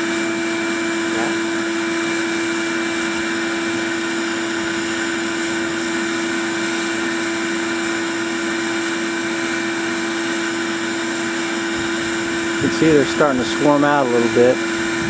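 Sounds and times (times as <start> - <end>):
vacuum motor humming: 0.0 - 15.0.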